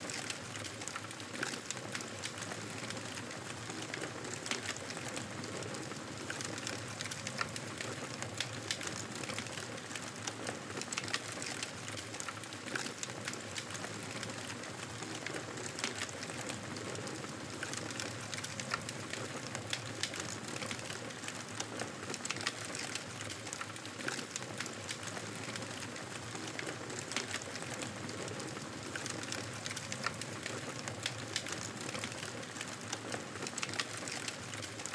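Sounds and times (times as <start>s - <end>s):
campfire crackling and popping: 6.2s - 34.9s.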